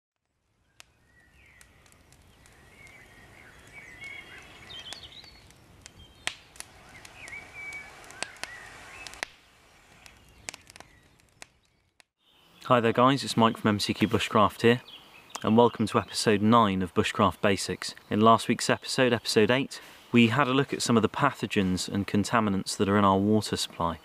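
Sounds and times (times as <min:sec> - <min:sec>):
campfire crackling and popping: 0:00.2 - 0:24.0
birds singing: 0:00.6 - 0:24.0.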